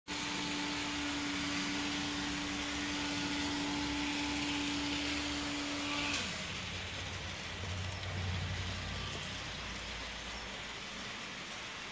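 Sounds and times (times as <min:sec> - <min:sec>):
small electric motor humming: 0:00.1 - 0:10.2.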